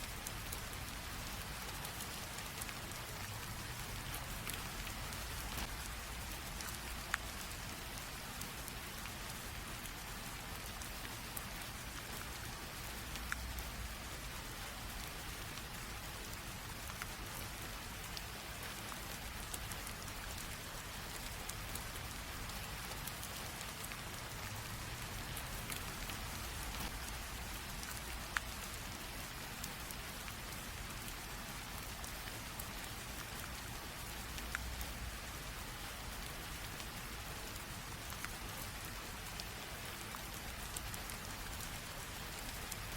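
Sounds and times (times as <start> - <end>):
light rain drizzle hissing: 0.0 - 42.9
raindrops ticking: 0.0 - 42.9.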